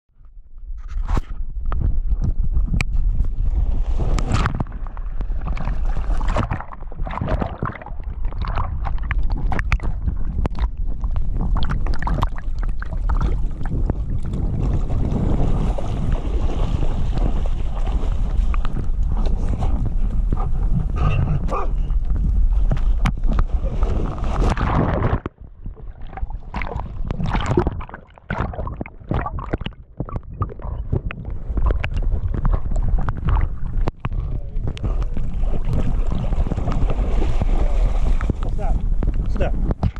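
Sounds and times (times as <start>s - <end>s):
wind rumble on microphone: 0.1s - 39.9s
water gurgling and dripping: 1.7s - 39.9s
water splashing around dog: 3.8s - 39.9s.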